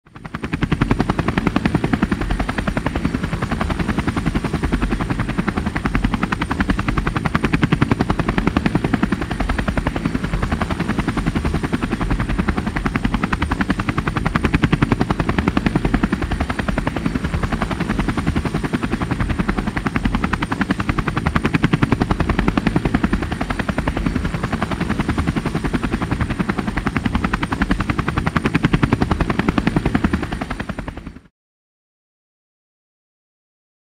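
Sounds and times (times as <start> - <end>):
helicopter rotor chopping: 0.1 - 31.3.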